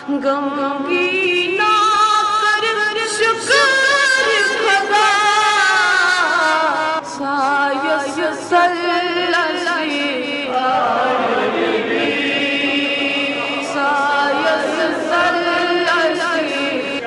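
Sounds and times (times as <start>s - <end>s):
boy singing devotional song: 0.0s - 11.2s, 11.8s - 17.0s.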